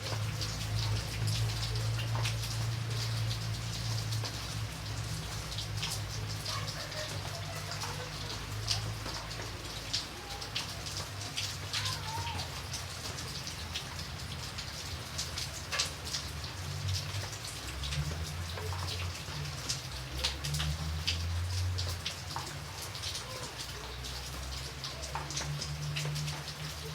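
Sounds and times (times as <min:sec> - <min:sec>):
raindrops ticking on a surface: 0:00.0 - 0:26.9
steady rain: 0:00.0 - 0:26.9.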